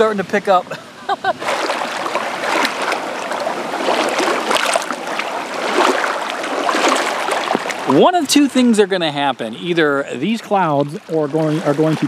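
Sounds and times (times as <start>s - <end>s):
waves washing over pebbles: 1.3s - 12.0s.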